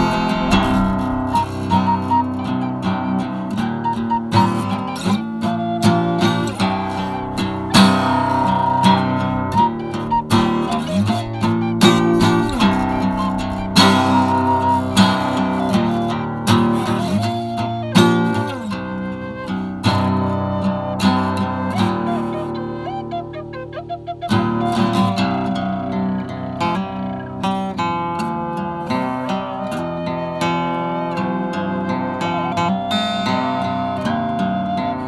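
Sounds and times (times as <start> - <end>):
acoustic guitar music: 0.0 - 35.0.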